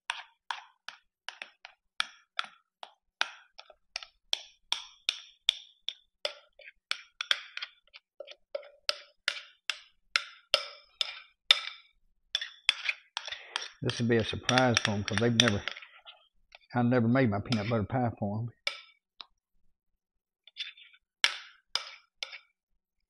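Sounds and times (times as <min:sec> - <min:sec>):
spoon scraping thick filling: 0:00.0 - 0:19.0, 0:20.4 - 0:22.6.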